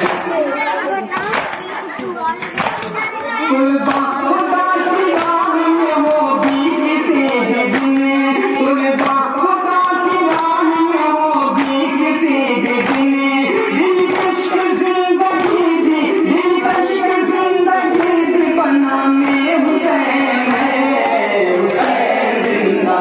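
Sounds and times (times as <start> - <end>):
rhythmic chest-beating strikes: 0.0 - 23.0
men chanting a lament: 3.4 - 23.0.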